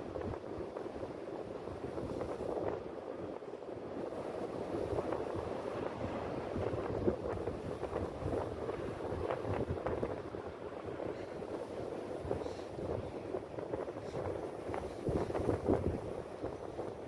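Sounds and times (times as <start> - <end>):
sea waves washing on shore: 0.0 - 17.0
wind buffeting microphone: 0.0 - 17.0.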